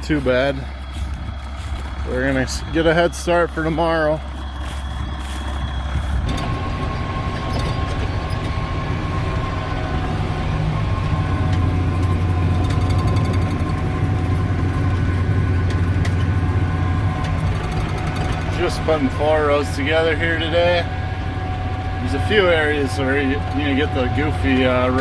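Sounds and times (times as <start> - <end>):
tractor diesel engine from cab: 0.0 - 25.0.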